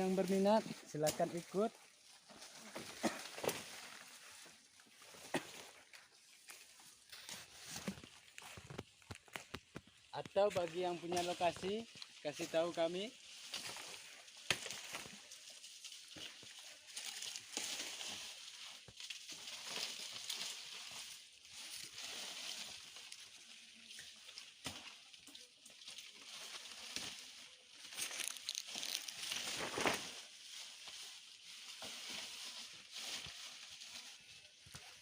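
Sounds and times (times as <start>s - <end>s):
rustling and crinkling sheeting: 0.0s - 35.0s.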